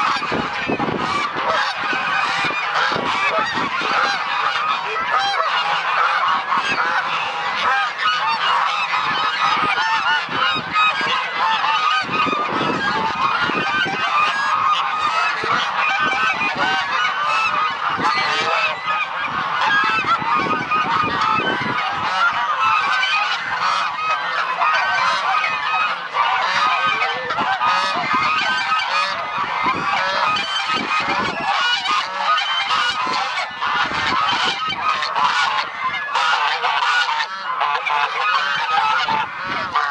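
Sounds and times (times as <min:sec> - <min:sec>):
flock of geese honking: 0:00.0 - 0:39.9.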